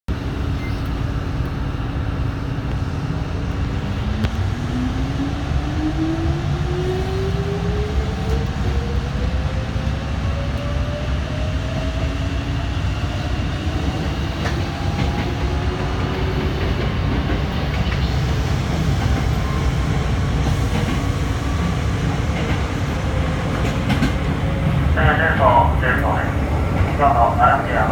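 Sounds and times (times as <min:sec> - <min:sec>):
wheels rumbling on rail: 0:00.1 - 0:27.9.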